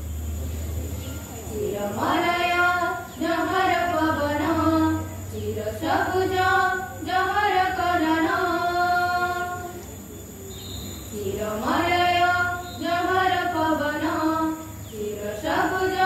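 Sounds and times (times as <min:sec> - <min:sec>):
girls singing into microphones: 0:01.6 - 0:09.8, 0:11.2 - 0:16.0.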